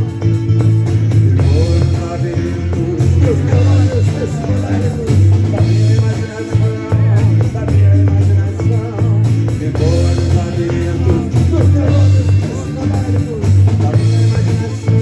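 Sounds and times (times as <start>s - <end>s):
loud bass line: 0.0s - 15.0s
rock band playing live: 0.0s - 15.0s
steady drum beat: 0.0s - 15.0s.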